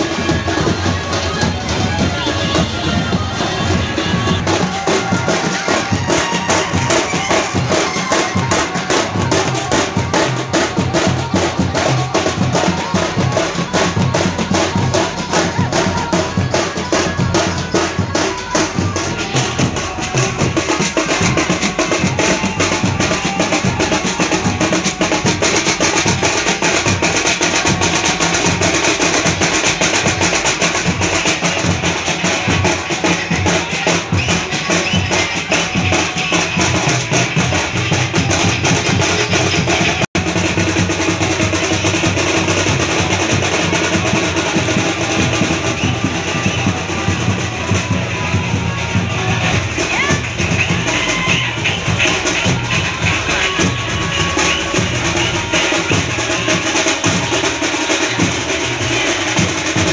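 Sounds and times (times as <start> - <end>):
band drumming fast beats: 0.0 - 59.9.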